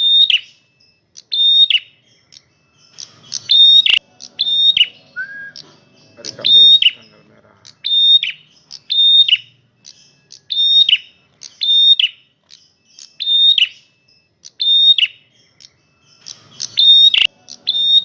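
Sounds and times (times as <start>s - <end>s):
bird chattering song: 0.0s - 18.0s.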